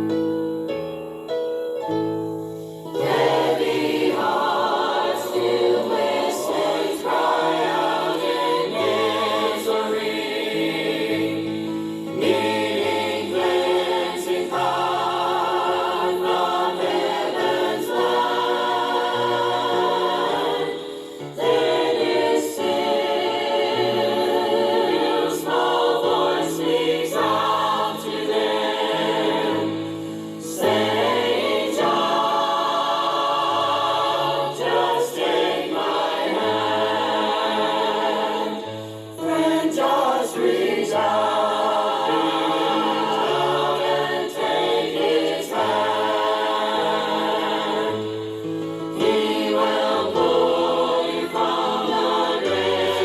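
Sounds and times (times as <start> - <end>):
choir singing gospel song: 2.6 - 53.0.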